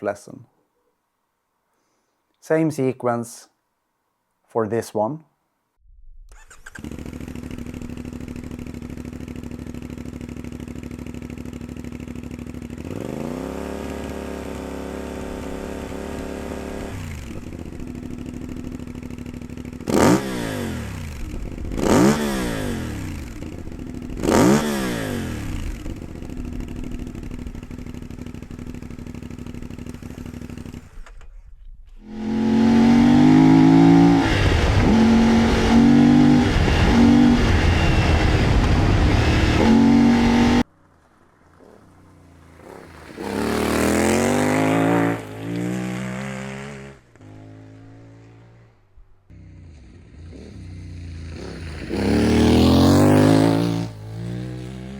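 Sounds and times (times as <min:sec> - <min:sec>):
motorcycle engine revving: 0:06.3 - 0:31.2, 0:32.0 - 0:54.9.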